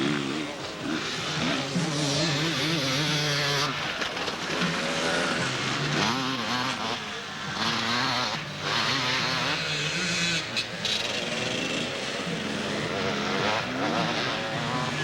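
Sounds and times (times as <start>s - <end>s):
off-road motorcycle engines revving: 0.0s - 15.0s.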